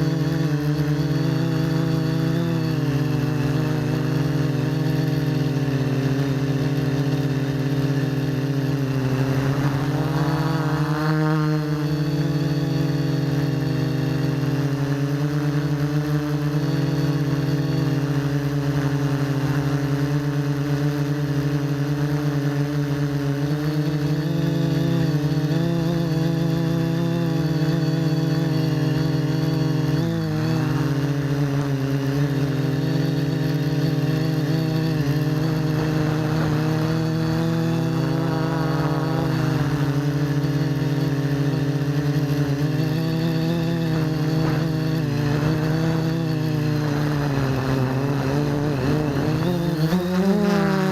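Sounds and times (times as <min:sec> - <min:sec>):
drone propellers buzzing: 0:00.0 - 0:50.9.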